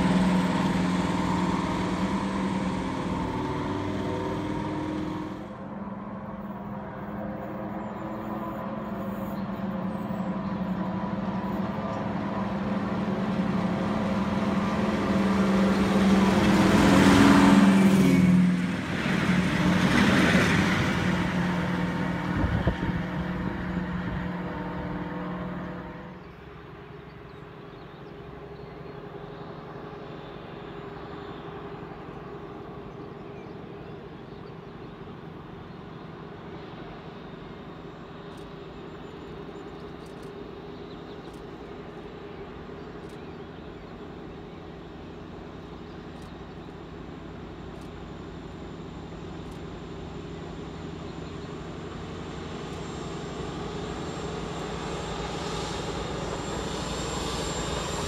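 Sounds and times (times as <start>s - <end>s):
diesel locomotive passing: 0.0s - 58.0s
distant train rumble: 0.0s - 58.0s.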